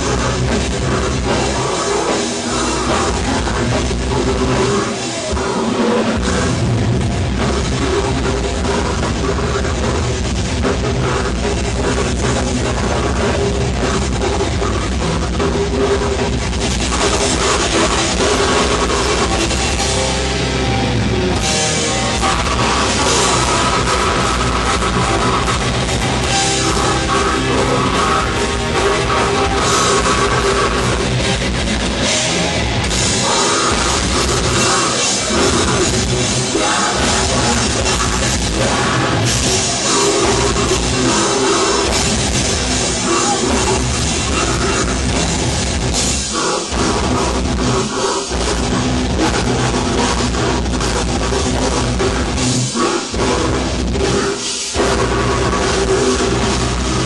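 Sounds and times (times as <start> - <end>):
bass guitar: 0.0 - 57.0
distorted guitars: 0.0 - 57.0
drum kit: 0.0 - 57.0.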